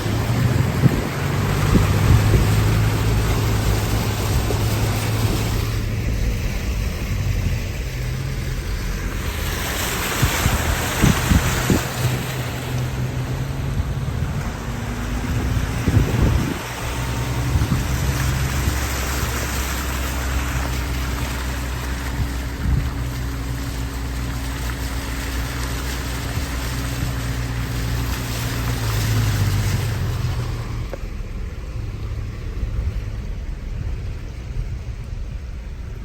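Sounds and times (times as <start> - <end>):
heavy rain hissing: 0.0 - 33.3
vehicle engine humming: 0.0 - 36.0.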